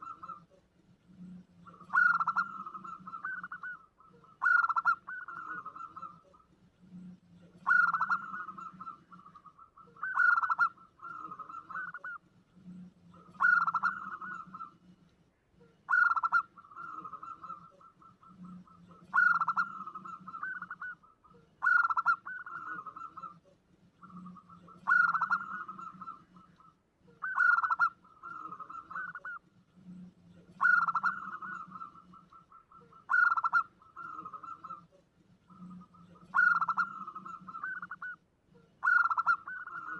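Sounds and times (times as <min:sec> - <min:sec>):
dove cooing trill: 0:00.0 - 0:39.9.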